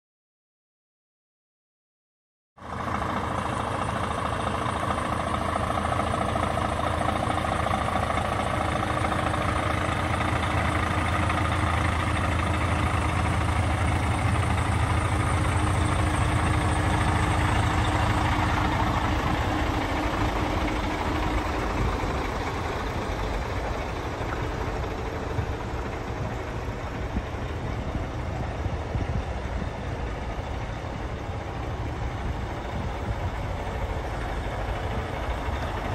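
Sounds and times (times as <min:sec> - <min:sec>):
diesel truck engine idling: 0:02.6 - 0:35.9.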